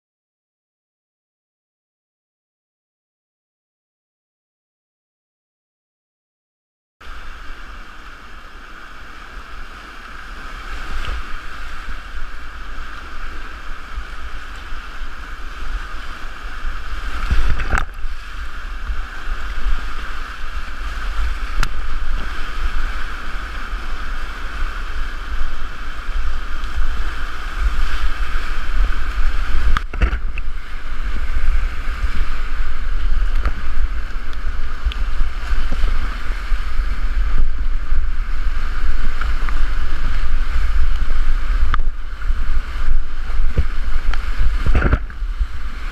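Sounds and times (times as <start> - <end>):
river whitewater rushing: 7.0 - 45.9
wind rumble on microphone: 7.0 - 45.9.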